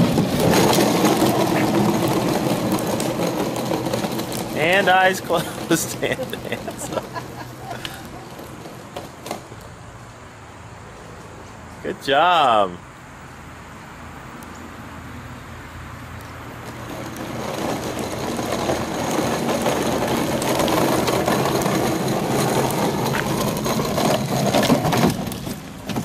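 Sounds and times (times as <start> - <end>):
plastic wheels rolling on asphalt: 0.0 - 26.0.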